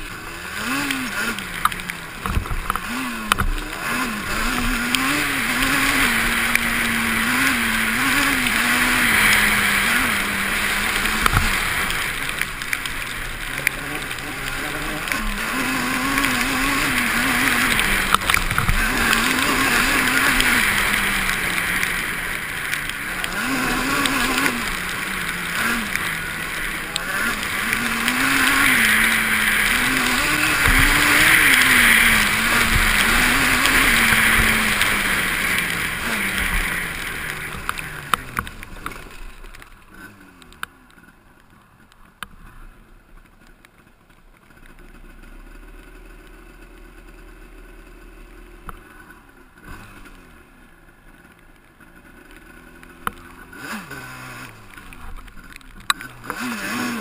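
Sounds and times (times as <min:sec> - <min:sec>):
quad engine revving: 0:00.0 - 0:41.1, 0:44.8 - 0:57.0.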